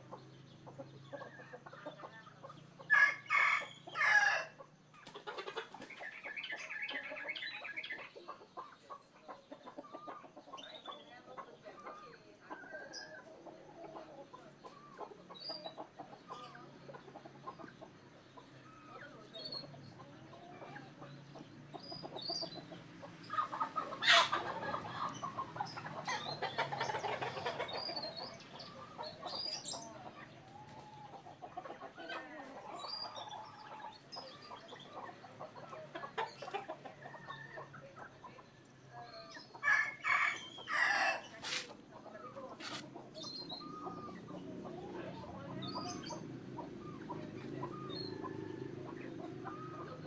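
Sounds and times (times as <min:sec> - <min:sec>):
birds clucking calls: 0:00.0 - 0:50.0.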